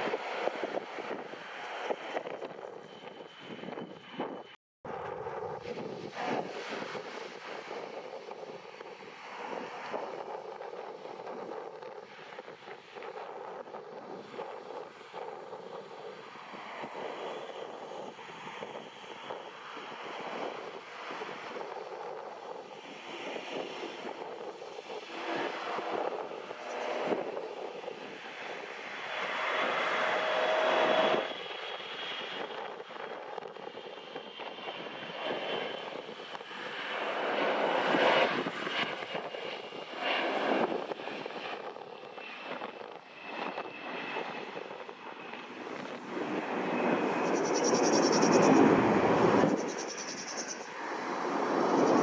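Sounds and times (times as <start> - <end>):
jet engines whining: 0.0 - 52.0
wind gusting on microphone: 0.0 - 52.0.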